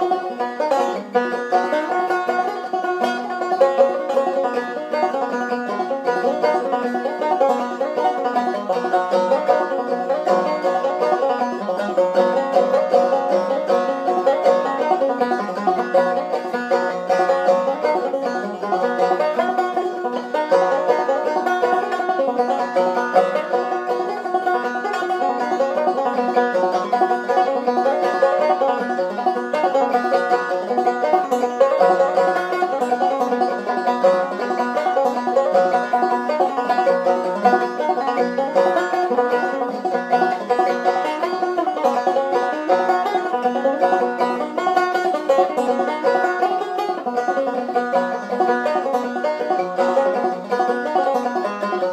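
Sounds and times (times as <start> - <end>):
banjo plucked notes: 0.0 - 51.9.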